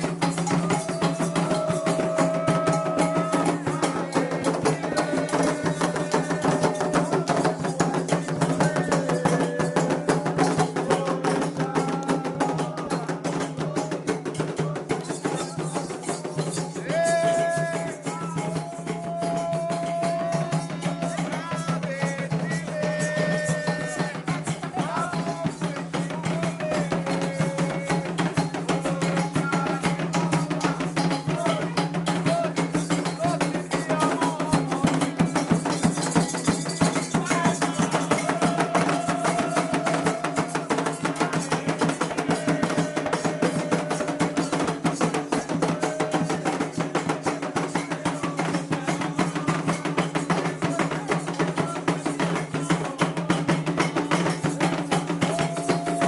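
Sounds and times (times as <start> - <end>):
fast hand drumming: 0.0 - 56.0
group singing a chant: 0.0 - 56.0.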